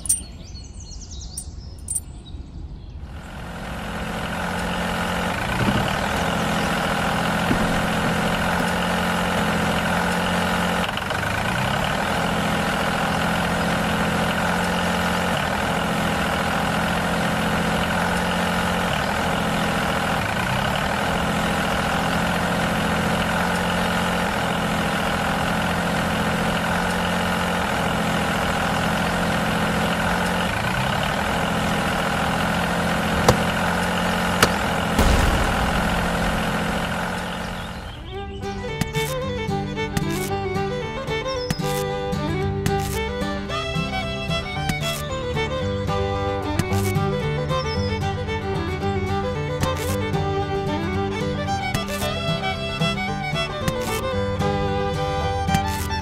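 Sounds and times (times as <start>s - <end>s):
tractor engine idling: 0.0s - 0.4s, 3.2s - 56.0s.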